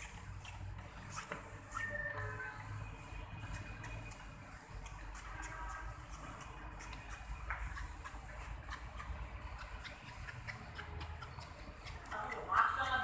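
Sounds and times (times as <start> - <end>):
peeler scraping carrot: 0.0 - 2.4, 3.4 - 13.0.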